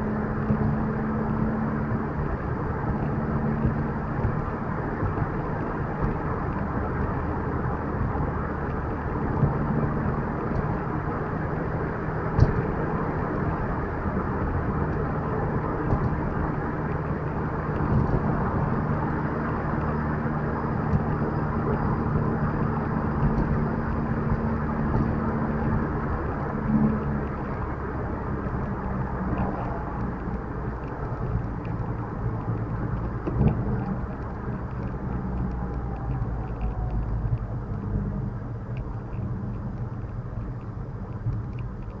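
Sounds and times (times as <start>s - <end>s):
car engine hum: 0.0s - 42.0s
road rumble: 0.0s - 42.0s.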